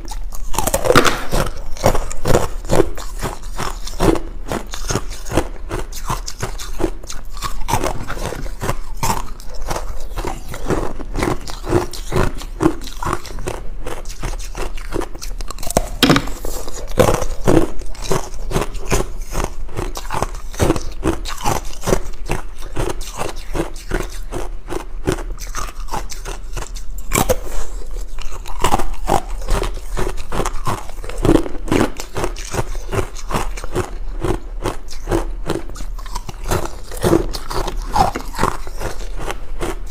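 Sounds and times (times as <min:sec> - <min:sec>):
person crunching ice cubes: 0:00.0 - 0:39.9.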